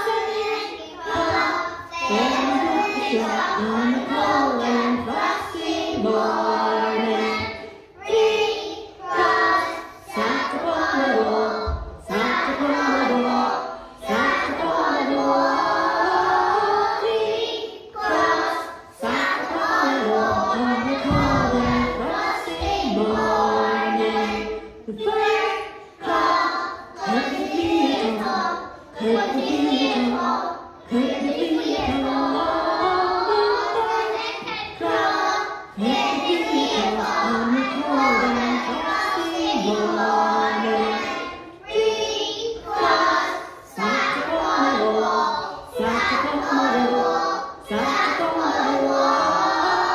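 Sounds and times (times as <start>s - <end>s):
children singing in unison: 0.0s - 49.9s.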